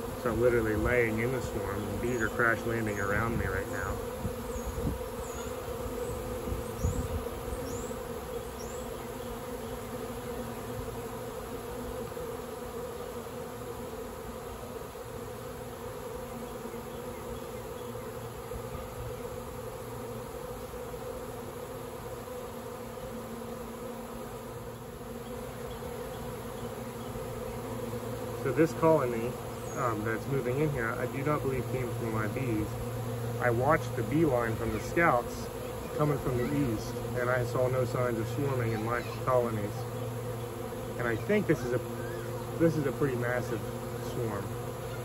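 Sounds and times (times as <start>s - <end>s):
bee swarm buzzing: 0.0s - 45.0s.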